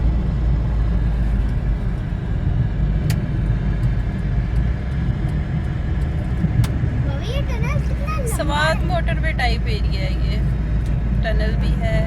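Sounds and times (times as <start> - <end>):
road and engine rumble in car: 0.0 - 12.0.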